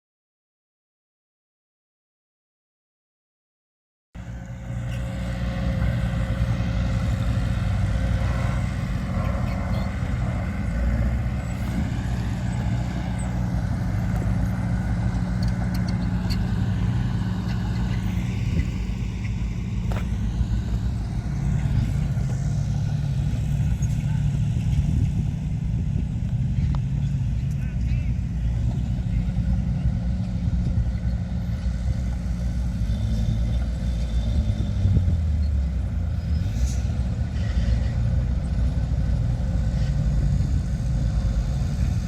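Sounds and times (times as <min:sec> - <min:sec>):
diesel engine droning under load: 0:04.2 - 0:42.0.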